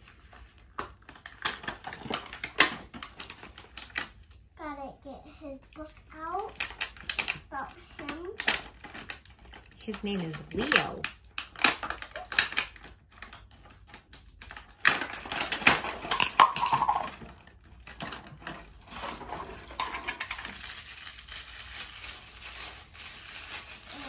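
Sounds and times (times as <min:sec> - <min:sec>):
plastic packaging crinkling: 0:00.0 - 0:04.5, 0:05.7 - 0:24.0.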